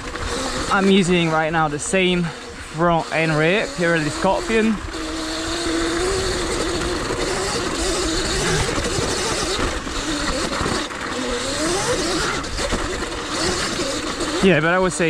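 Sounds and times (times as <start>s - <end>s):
electric motor whining: 0.0s - 15.0s
tyre noise on dirt and rock: 0.0s - 15.0s.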